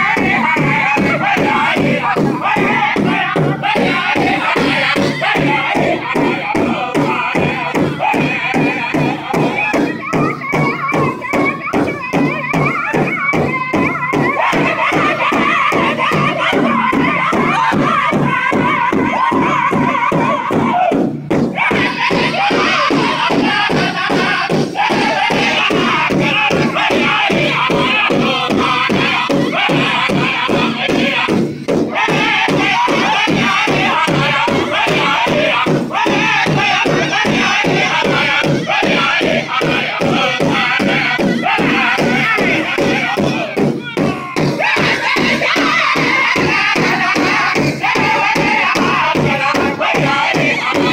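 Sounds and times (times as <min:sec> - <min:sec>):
big drum steady beat: 0:00.0 - 0:50.9
high-pitched group singing: 0:00.0 - 0:50.9.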